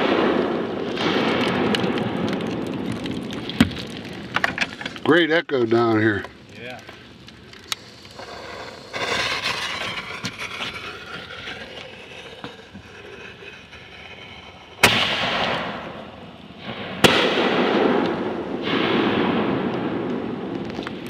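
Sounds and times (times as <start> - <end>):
rumbling echo: 0.0 - 5.0, 7.4 - 21.0
firework bangs: 0.0 - 5.2, 7.7 - 21.0
firework crackling hiss: 0.0 - 5.2, 6.4 - 21.0.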